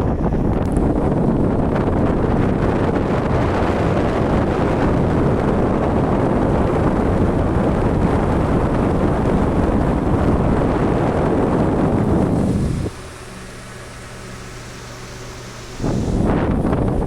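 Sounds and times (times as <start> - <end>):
electric fan wind noise: 0.0 - 17.0.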